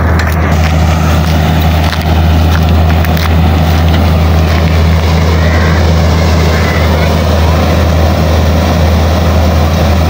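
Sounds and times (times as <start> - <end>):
combine harvester engine drone: 0.0 - 10.0
rush of machinery: 0.0 - 10.0.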